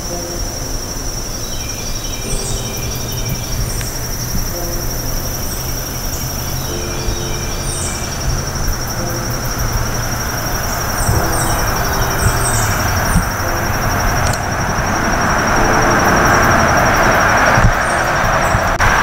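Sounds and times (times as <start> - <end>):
insect trill: 0.0 - 19.0.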